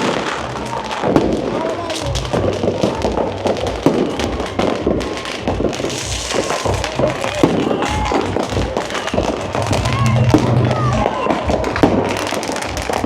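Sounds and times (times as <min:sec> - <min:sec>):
firecrackers cracking and banging: 0:00.0 - 0:13.0
music with bass beat: 0:02.2 - 0:13.0.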